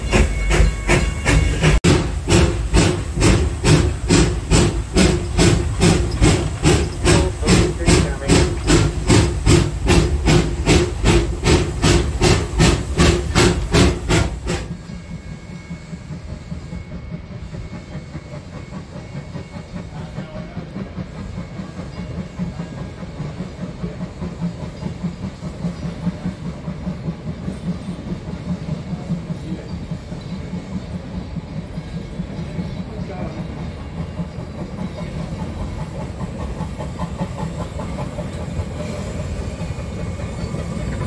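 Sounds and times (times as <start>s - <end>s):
distant steam locomotive chuffing: 0.0s - 41.0s
steam locomotive exhaust beating: 0.0s - 41.0s.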